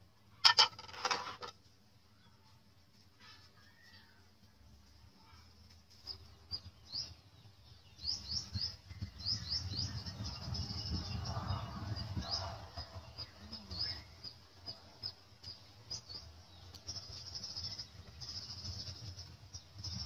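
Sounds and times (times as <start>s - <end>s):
small birds chirping: 2.0s - 20.0s.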